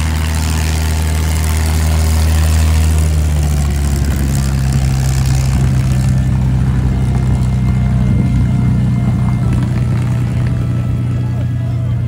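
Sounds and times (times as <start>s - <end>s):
large piston engine running: 0.0s - 12.0s.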